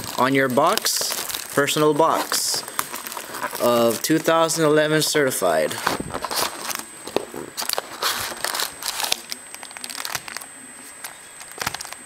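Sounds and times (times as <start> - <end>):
cardboard and foil rustling: 0.0 - 12.0.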